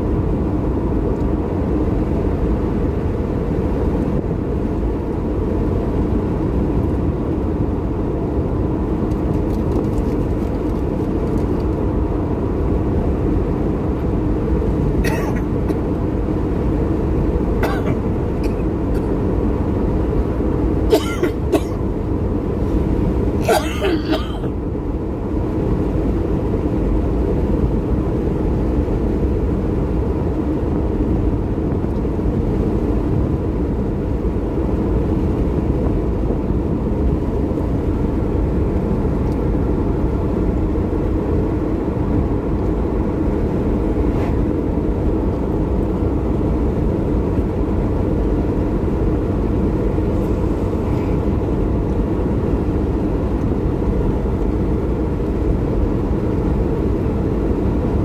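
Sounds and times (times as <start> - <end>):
car rumbling on road: 0.0 - 58.0.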